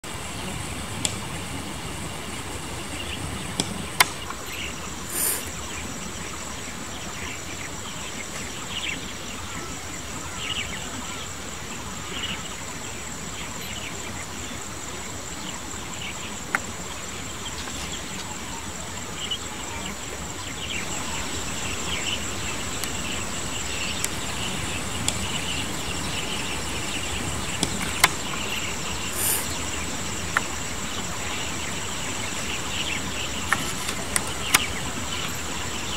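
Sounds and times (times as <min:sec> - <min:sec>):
high-pitched insect chorus: 0:00.1 - 0:35.9.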